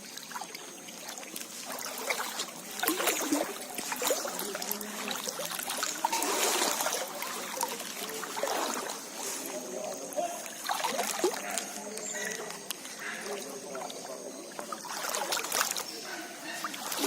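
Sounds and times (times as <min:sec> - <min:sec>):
floodwater splashing and trickling: 0:00.0 - 0:17.0
small splashes and knocks: 0:00.0 - 0:17.0.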